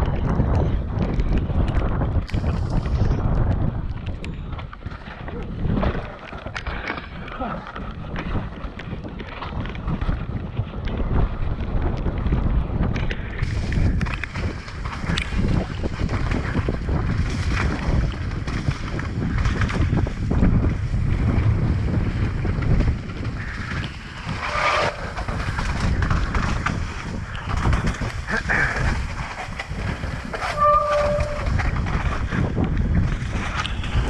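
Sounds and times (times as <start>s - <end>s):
bike knocks and rattles: 0.0s - 34.0s
tyres rolling on dirt and rock: 0.0s - 34.0s
wind buffeting microphone: 0.0s - 34.0s.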